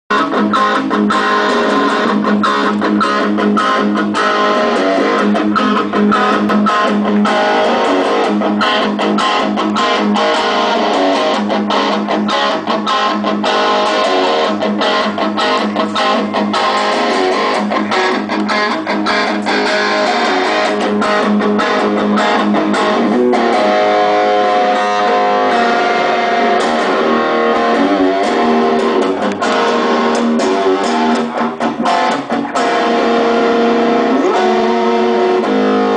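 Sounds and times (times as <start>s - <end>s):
electric guitar through amplifier: 0.1s - 35.9s.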